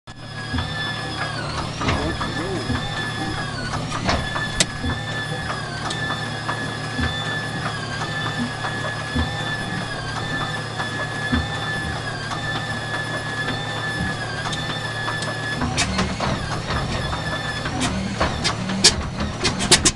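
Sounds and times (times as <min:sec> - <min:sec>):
starter cranking aircraft engine: 0:00.1 - 0:19.9.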